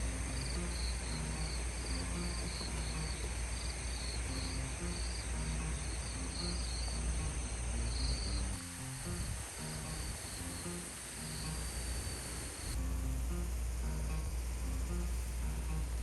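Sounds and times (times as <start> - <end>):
crickets chirping: 0.0 - 16.0
soft music: 0.0 - 16.0
steady low rumble: 0.0 - 16.0.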